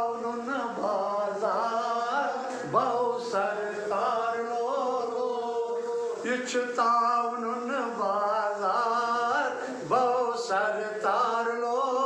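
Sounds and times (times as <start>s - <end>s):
man singing devotional song: 0.0s - 12.0s.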